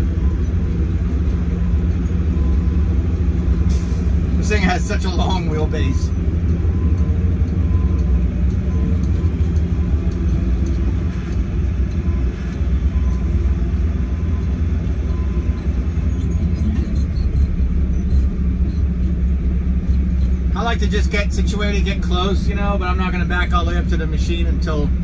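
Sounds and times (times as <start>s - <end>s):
diesel truck engine rumble: 0.0s - 25.0s.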